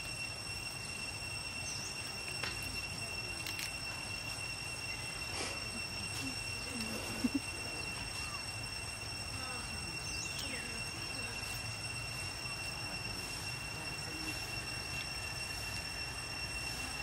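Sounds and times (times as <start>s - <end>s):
high-pitched insect drone: 0.0s - 17.0s
low outdoor rumble: 0.0s - 17.0s.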